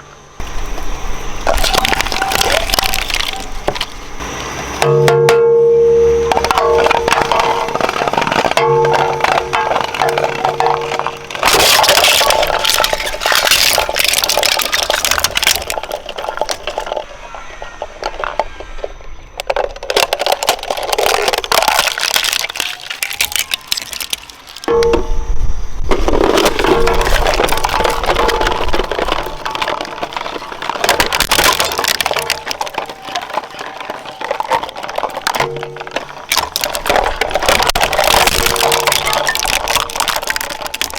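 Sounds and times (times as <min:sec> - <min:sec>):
shredder crunching material: 0:01.4 - 0:05.4, 0:06.0 - 0:24.8, 0:25.9 - 0:40.9.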